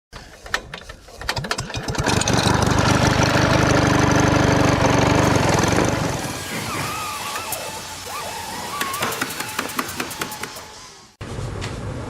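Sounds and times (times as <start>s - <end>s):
small engine starting and running: 0.3s - 11.2s.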